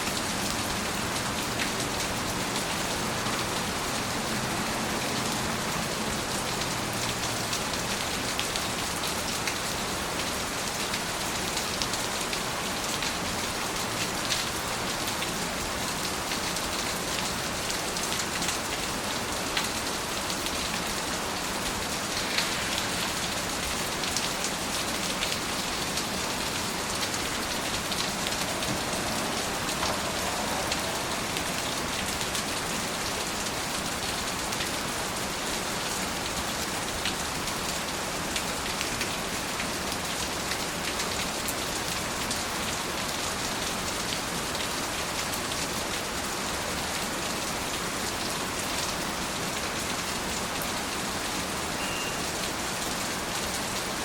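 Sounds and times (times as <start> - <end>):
steady rain falling: 0.0 - 54.0
raindrops ticking on a surface: 0.1 - 54.0.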